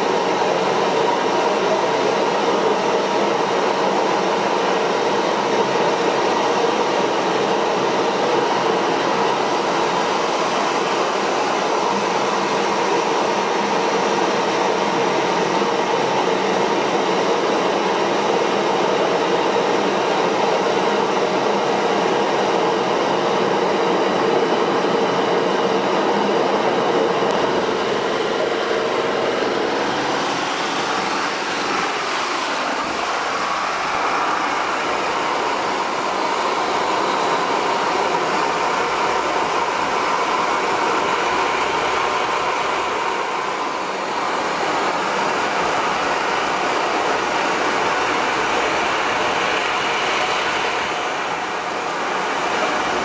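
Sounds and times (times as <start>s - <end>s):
small jet engine running: 0.0s - 53.0s.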